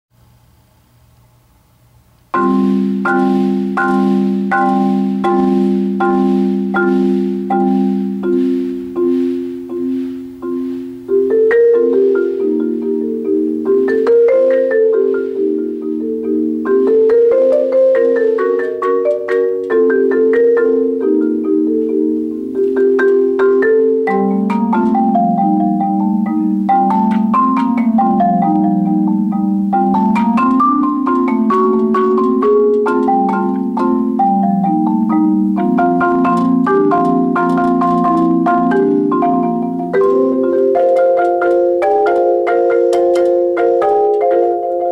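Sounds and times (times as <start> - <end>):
solo marimba: 2.3 - 44.9.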